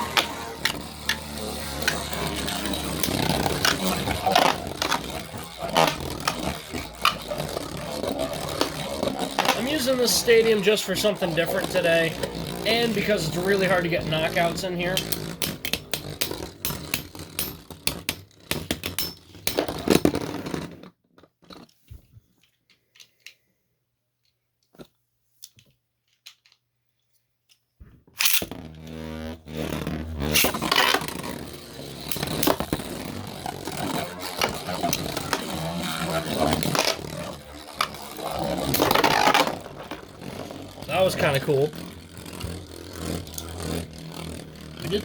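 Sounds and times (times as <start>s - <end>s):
spinning tops clashing and scraping: 0.0s - 20.4s, 28.2s - 29.3s, 30.0s - 45.0s
spinning tops launched with whir: 0.0s - 20.4s, 28.2s - 45.0s.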